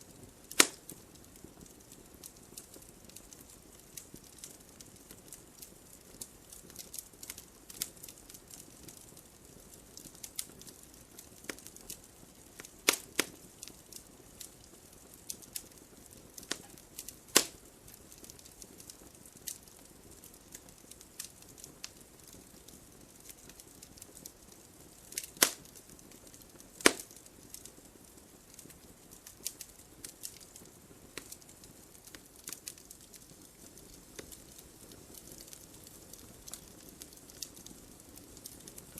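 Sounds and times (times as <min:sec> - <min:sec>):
fire crackling: 0:00.0 - 0:38.9
soft hiss: 0:00.0 - 0:38.9
sharp fire pops: 0:00.1 - 0:38.9.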